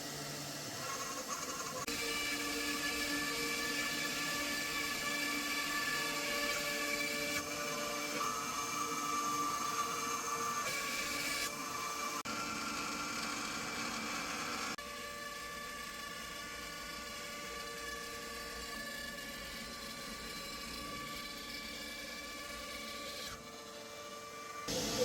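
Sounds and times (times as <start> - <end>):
router motors whining: 0.0 - 25.0.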